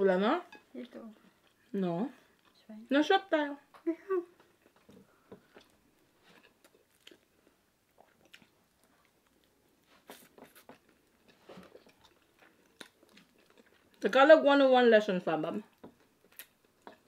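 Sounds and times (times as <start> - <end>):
faint chewing: 0.8 - 2.9, 3.7 - 14.2, 15.7 - 17.0.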